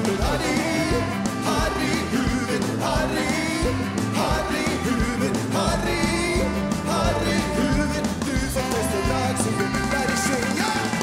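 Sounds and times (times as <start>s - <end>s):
bass guitar: 0.0s - 11.0s
drums: 0.0s - 11.0s
electric guitar: 0.0s - 11.0s
man singing lead vocal: 0.0s - 11.0s.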